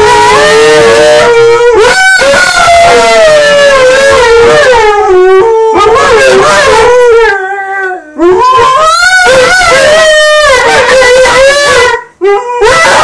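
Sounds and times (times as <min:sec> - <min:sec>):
dogs howling: 0:00.0 - 0:13.0.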